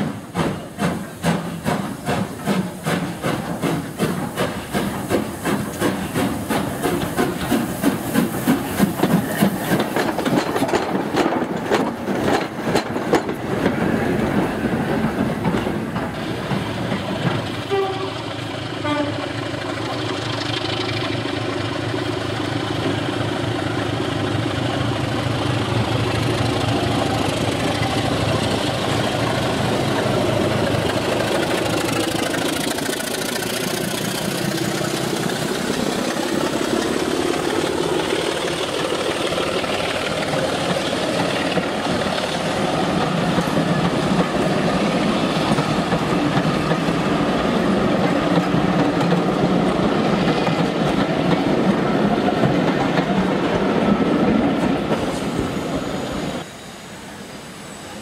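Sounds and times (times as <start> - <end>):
diesel locomotive passing: 0.0 - 58.0
train coaches rolling past: 0.0 - 58.0.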